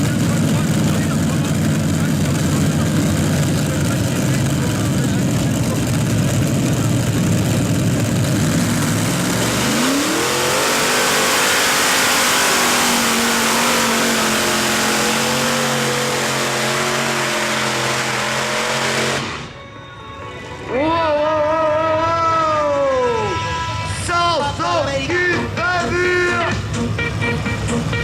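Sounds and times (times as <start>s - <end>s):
tractor engine at full power: 0.0s - 19.7s, 22.0s - 28.0s.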